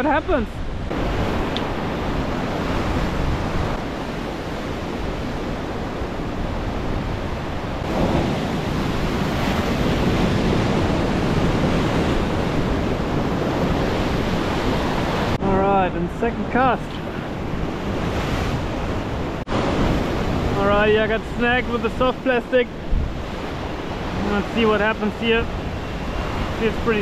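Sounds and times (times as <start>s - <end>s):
ocean surf washing against rocks: 0.0s - 27.0s
wind rumbling on microphone: 0.0s - 27.0s.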